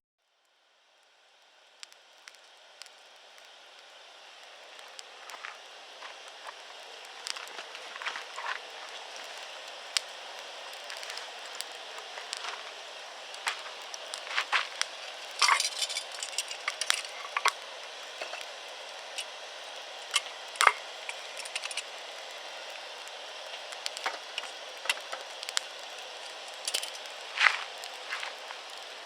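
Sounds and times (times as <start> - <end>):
campfire crackling and popping: 0.4 - 29.0.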